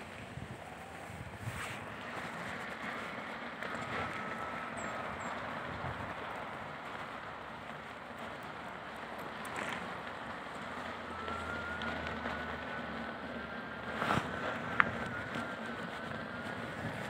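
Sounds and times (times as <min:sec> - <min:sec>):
high motor whine: 0:00.0 - 0:17.0.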